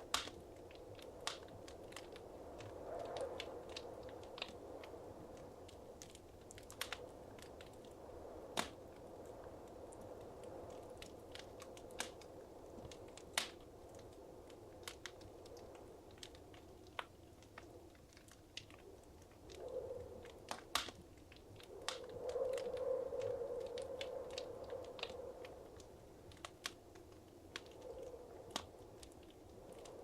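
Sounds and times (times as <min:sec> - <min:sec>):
fire crackling in a fireplace: 0:00.0 - 0:30.0.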